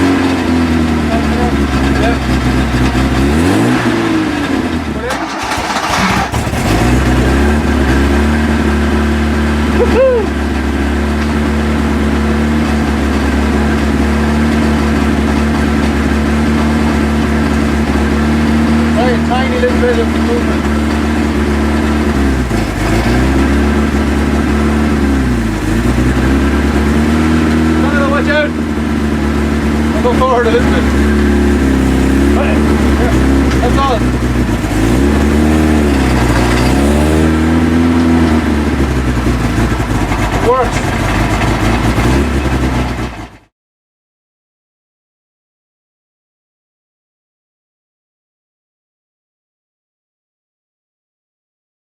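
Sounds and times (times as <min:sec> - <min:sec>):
car engine idling: 0:00.0 - 0:43.5.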